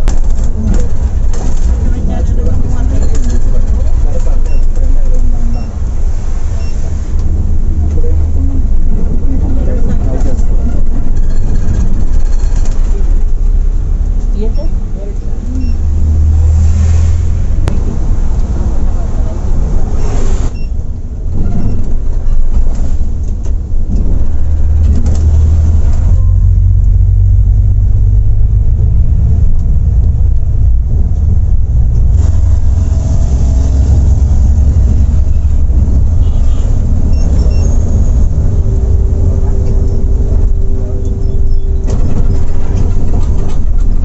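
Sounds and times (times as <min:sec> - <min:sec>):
bus engine and road rumble: 0:00.0 - 0:44.0.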